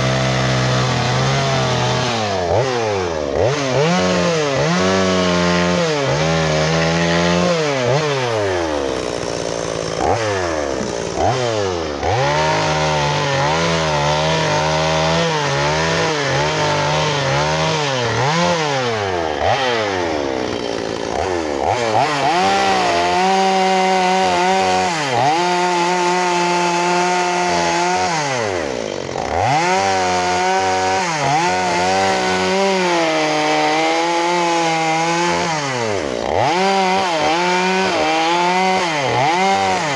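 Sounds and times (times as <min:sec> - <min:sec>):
chainsaw revving while cutting log: 0:00.0 - 0:39.9.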